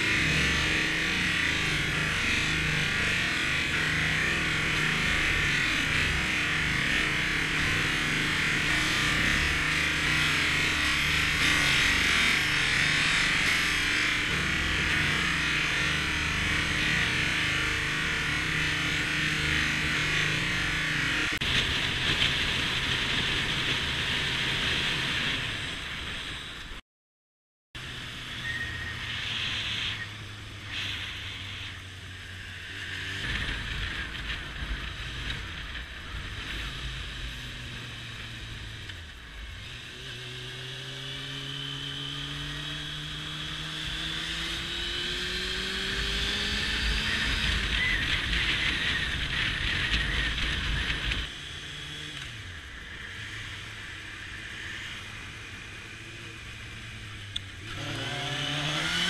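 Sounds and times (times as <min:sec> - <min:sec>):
motorcycle engine accelerating: 0:00.0 - 0:26.8, 0:27.8 - 0:59.0.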